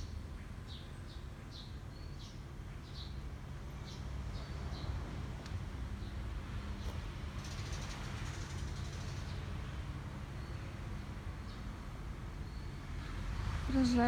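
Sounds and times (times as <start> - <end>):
distant city traffic: 0.0 - 14.0.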